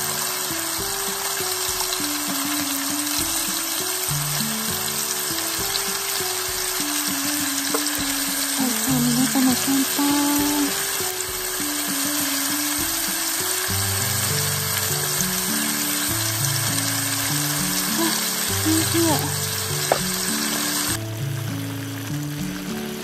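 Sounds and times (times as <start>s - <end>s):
background music: 0.0s - 23.0s
food sizzling in oil: 0.0s - 23.0s.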